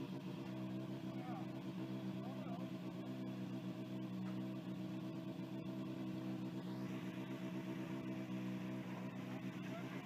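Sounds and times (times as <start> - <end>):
rally car engine idling: 0.0 - 10.0.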